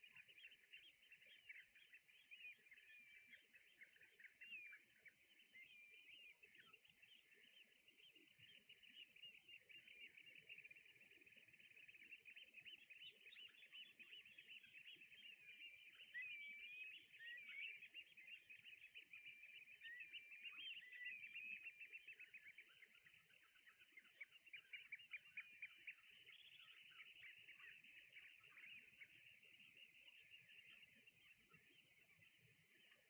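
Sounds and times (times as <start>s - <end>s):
flock of birds calling: 0.0s - 33.0s.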